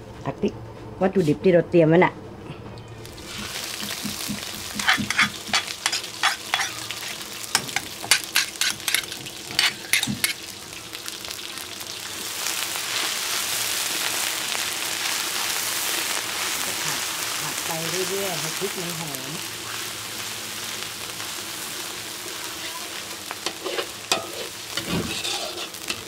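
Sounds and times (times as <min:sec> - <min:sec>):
paste sizzling in hot oil: 0:03.0 - 0:26.0.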